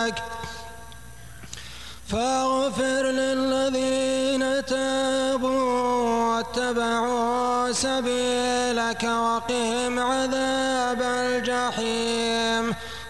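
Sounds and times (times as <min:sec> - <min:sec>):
man chanting melodically: 0:00.0 - 0:01.0, 0:02.1 - 0:13.0.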